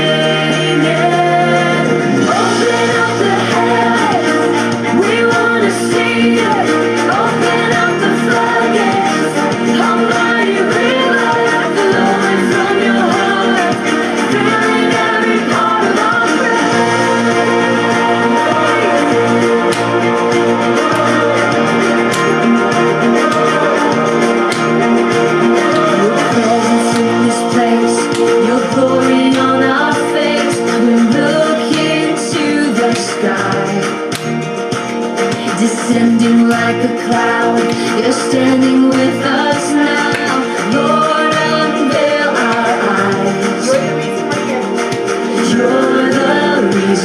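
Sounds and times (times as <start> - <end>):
person singing: 0.0 - 47.0
recorded worship song: 0.0 - 47.0
steady drum beat: 0.0 - 47.0.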